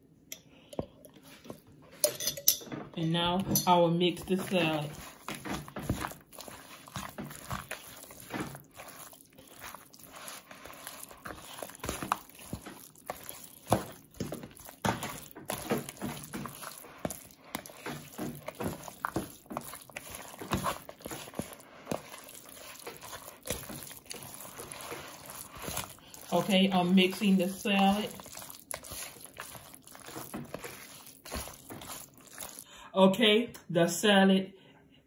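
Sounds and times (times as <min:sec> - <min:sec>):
spoon squelching in salad: 0:03.8 - 0:32.8.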